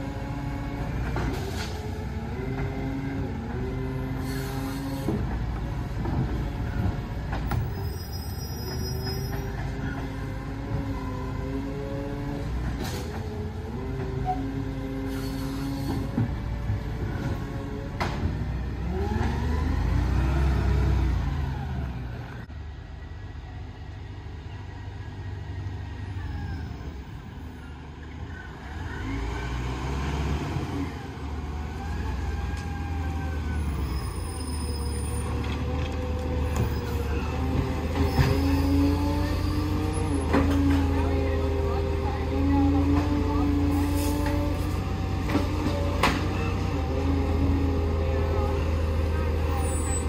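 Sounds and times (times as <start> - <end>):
garbage truck diesel engine: 0.0 - 50.0.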